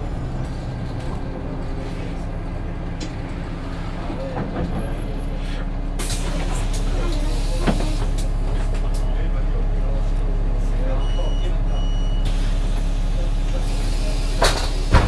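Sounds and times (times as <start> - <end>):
bus interior hum: 0.0 - 15.0.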